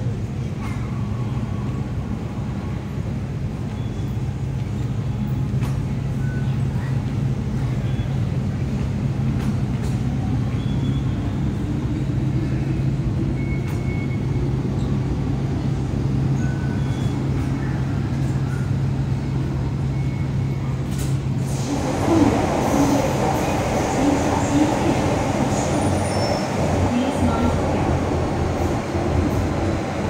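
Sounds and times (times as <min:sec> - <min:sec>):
metro train rumble and hum: 0:00.0 - 0:30.0
noise inside train car: 0:00.0 - 0:30.0.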